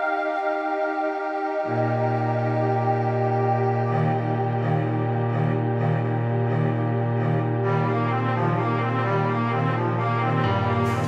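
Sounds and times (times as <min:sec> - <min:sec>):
slow sad music with held notes: 0:00.0 - 0:11.0.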